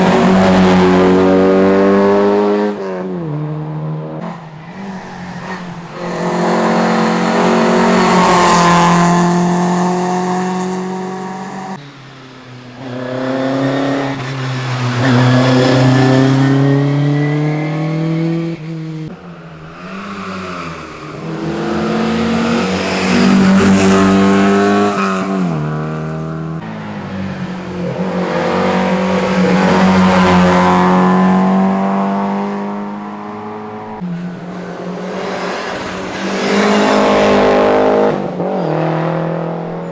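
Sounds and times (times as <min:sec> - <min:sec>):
rally car engines revving past: 0:00.0 - 0:39.9.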